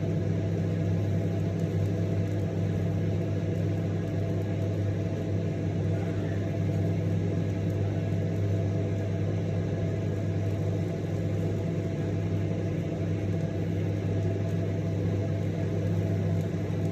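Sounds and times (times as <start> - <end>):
microwave oven humming: 0.0 - 16.9.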